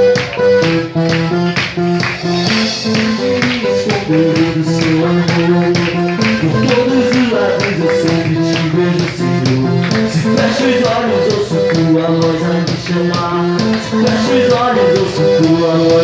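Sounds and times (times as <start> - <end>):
instrumental band music: 0.0 - 16.0.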